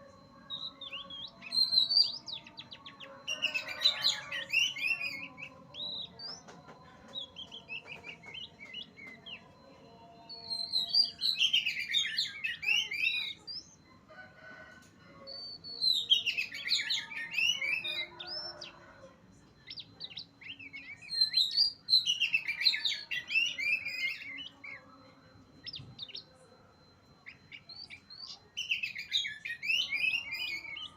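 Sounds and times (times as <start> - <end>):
bird singing varied chirping phrases: 0.3 - 13.9, 15.3 - 18.8, 19.4 - 30.9.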